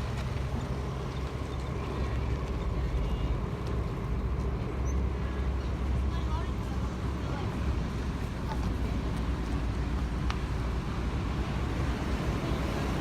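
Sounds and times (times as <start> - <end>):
ferry engine rumbling: 0.0 - 13.0.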